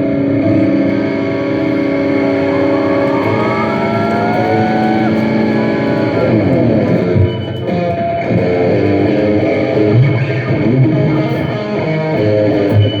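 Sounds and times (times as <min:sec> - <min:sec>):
guitar playing ringing chords: 0:00.1 - 0:13.0.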